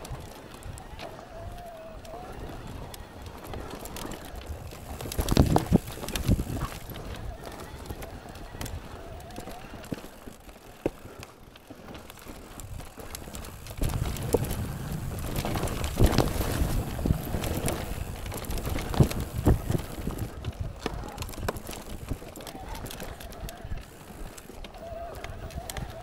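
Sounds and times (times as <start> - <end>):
bike rattling: 0.0 - 26.0
bike tyres rumbling on trail: 0.0 - 26.0.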